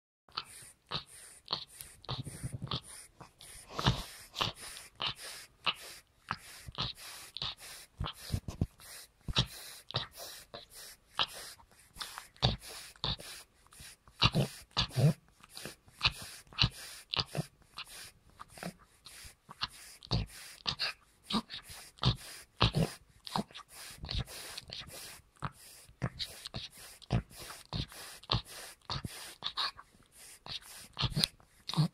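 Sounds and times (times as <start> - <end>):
dog snoring: 0.3 - 31.9.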